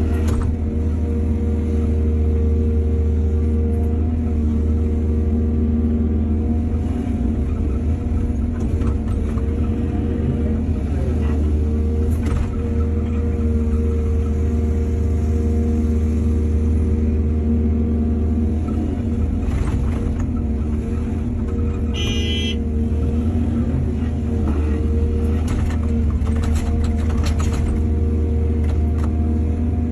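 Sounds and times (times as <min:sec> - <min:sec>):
diesel engine rumbling: 0:00.0 - 0:29.9.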